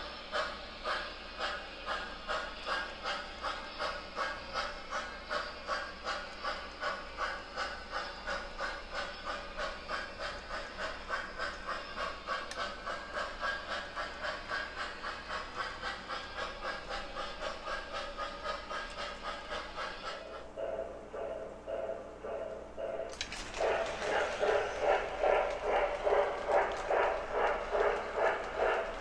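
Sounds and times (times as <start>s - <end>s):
model steam locomotive chuffing: 0.0s - 29.0s.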